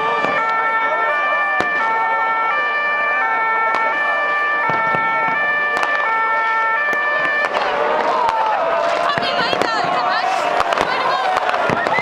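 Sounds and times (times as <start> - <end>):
crowd noise: 0.0 - 12.0
firecrackers banging: 0.0 - 12.0
two-tone emergency sirens: 0.0 - 12.0.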